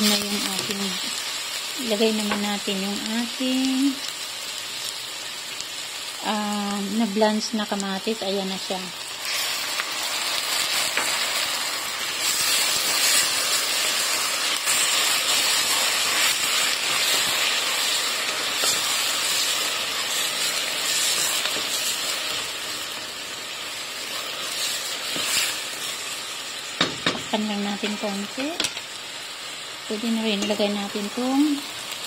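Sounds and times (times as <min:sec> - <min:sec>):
tomatoes sizzling in hot oil: 0:00.0 - 0:32.0.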